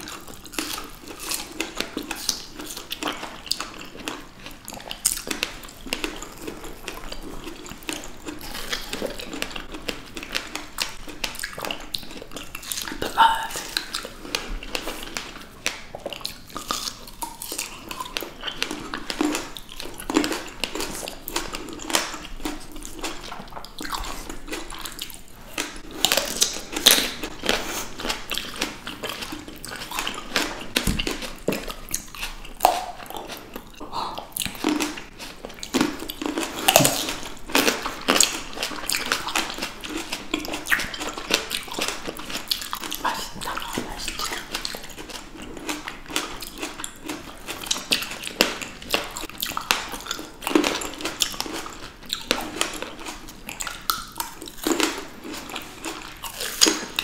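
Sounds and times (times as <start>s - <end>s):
people chewing crisp fruit: 0.0s - 57.0s.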